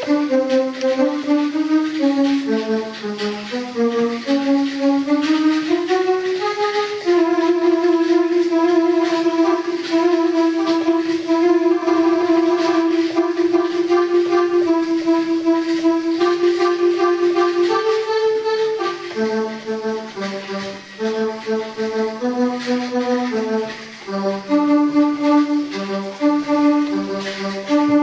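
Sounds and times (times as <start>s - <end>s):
electronic keyboard melody: 0.0s - 28.0s.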